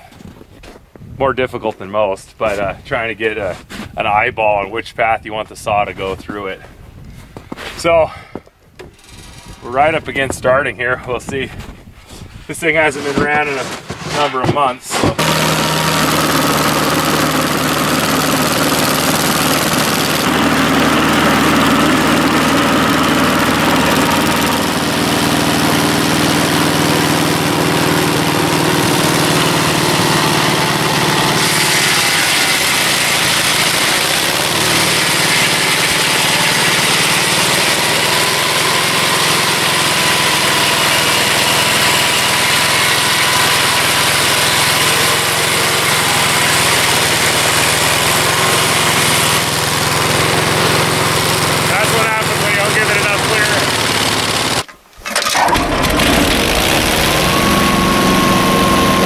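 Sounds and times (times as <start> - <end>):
sawmill engine running: 8.8 - 11.4, 12.6 - 59.0.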